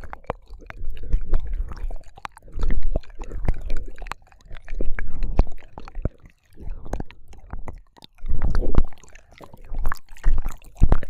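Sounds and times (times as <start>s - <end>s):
wet mouth clicks and smacks: 0.0s - 11.0s.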